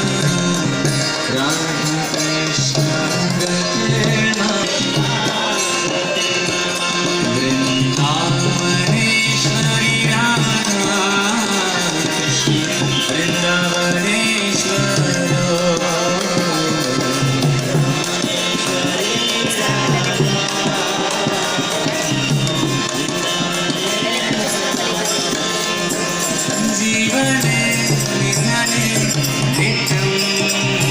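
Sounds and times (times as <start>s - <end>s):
hand drum and percussion: 0.0s - 30.9s
voices singing devotional music: 0.0s - 30.9s.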